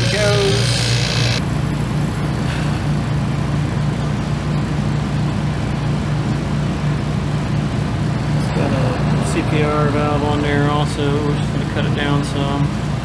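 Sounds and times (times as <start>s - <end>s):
freezer compressor humming: 0.0s - 13.0s.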